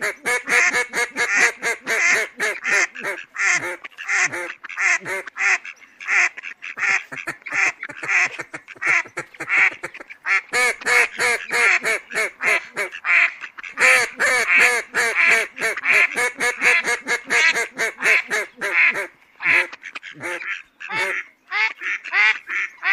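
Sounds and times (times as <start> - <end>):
ducks quacking: 0.0 - 22.9.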